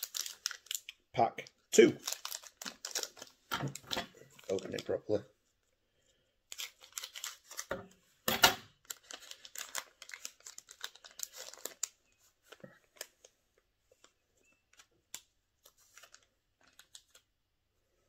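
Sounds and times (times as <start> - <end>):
plastic wrapper crinkling: 0.0 - 5.2, 6.5 - 7.7, 8.7 - 17.3.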